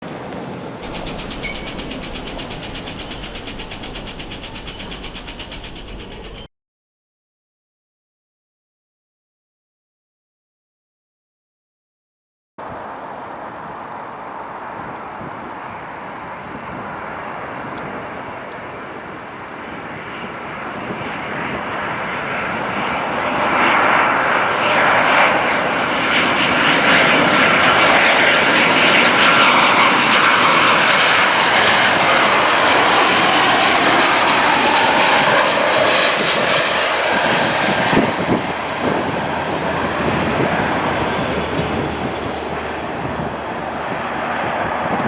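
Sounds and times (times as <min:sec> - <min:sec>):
jet engines passing: 0:00.0 - 0:06.5, 0:12.6 - 0:45.0.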